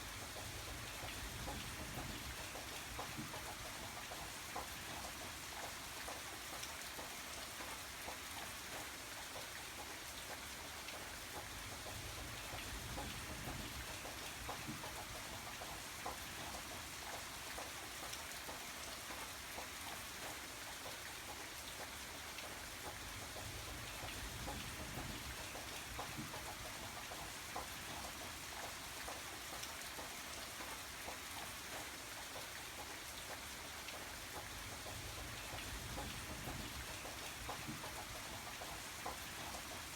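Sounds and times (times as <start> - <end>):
steady rain: 0.0 - 39.9
raindrops pattering: 0.1 - 39.9.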